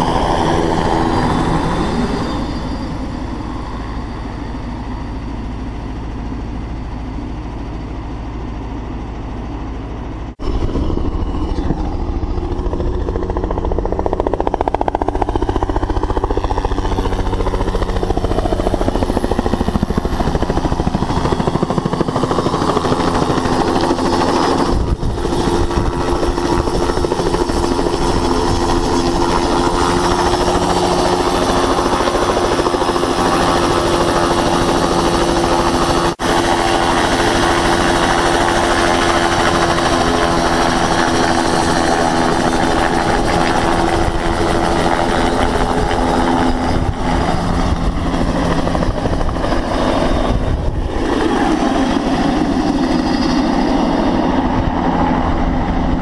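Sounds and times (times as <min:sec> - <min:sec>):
helicopter engine tone: 0:00.0 - 0:56.0
helicopter rotor turning: 0:00.0 - 0:56.0.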